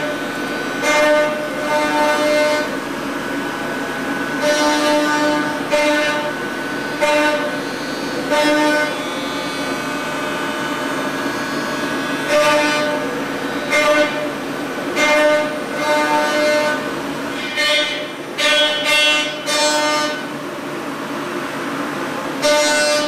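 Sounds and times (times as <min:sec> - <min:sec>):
milling machine cutting metal: 0:00.0 - 0:20.4.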